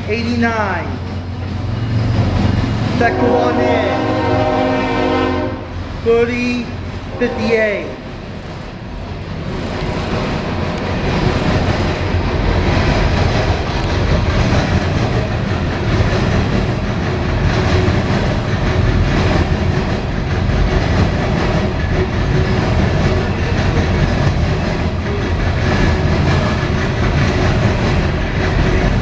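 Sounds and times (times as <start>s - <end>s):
clickety-clack over rail joints: 0.0s - 29.0s
train wheels rumbling on rails: 0.0s - 29.0s.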